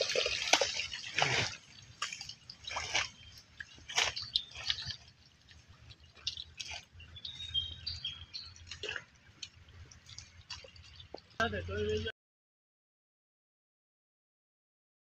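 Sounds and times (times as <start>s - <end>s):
water splashes and drips: 0.0s - 12.1s.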